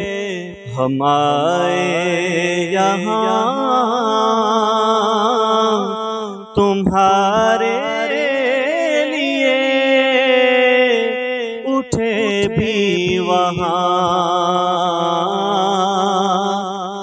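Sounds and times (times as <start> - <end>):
man singing solo: 0.0 - 5.9, 6.6 - 17.0.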